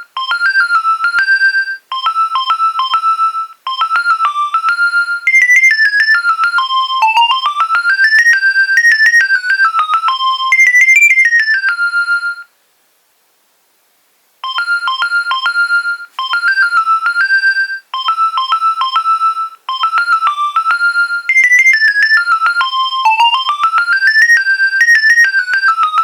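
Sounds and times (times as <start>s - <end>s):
electronic beeping ringtone: 0.0s - 12.5s, 14.4s - 26.0s.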